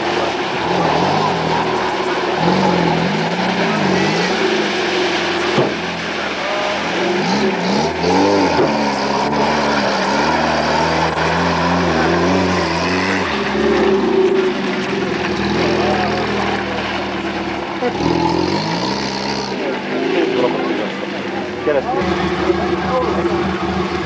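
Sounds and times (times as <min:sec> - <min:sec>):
engine revving in mud: 0:00.0 - 0:24.0.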